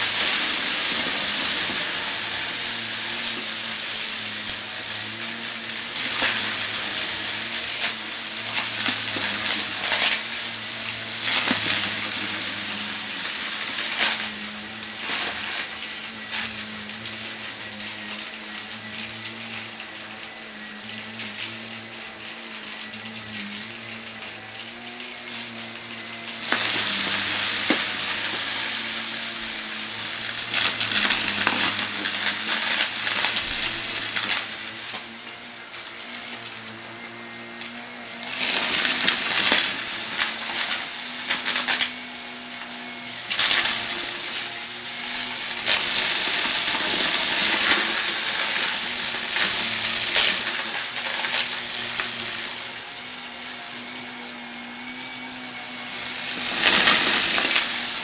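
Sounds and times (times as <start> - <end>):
debris crackling in vacuum: 0.0 - 58.0
vacuum cleaner running: 0.0 - 58.0.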